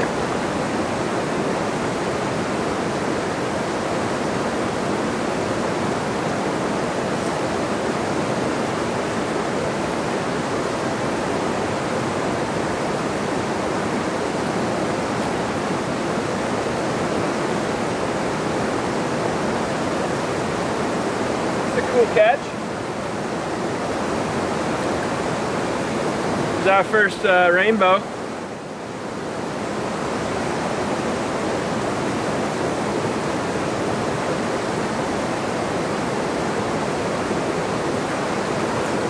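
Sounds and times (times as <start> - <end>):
river rushing over rapids: 0.0 - 39.0.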